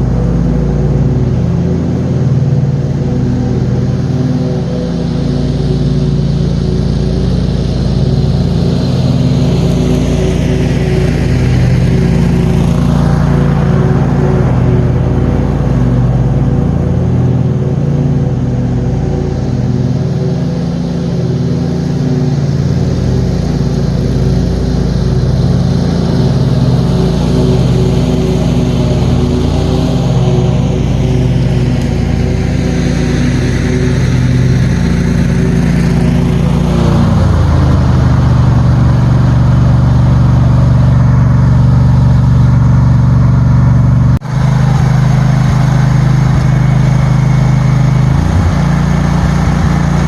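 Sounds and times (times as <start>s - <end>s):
higher-pitched noise: 0.0s - 50.0s
mower engine running: 0.0s - 50.0s.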